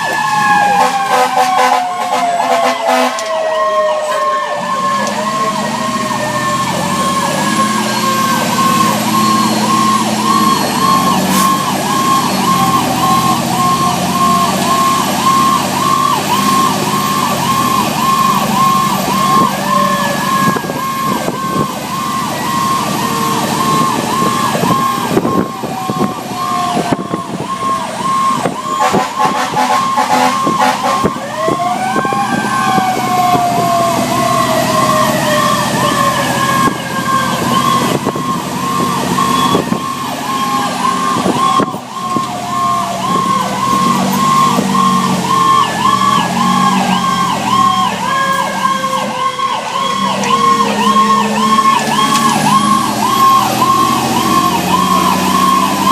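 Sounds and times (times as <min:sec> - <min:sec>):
electronic siren yelp: 0:00.0 - 0:55.9
wailing siren: 0:00.0 - 0:55.9.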